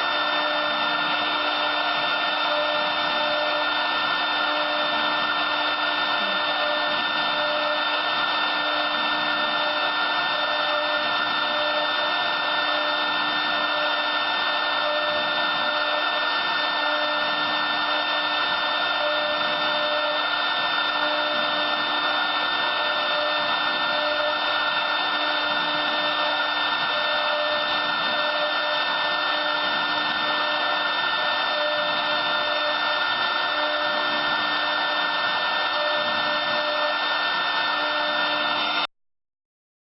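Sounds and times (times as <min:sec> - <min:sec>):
cnc router spindle whining: 0:00.0 - 0:38.9.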